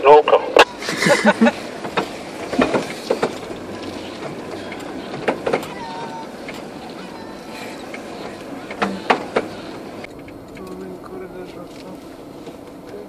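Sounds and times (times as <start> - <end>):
vehicle road noise on dirt road: 0.0 - 13.0.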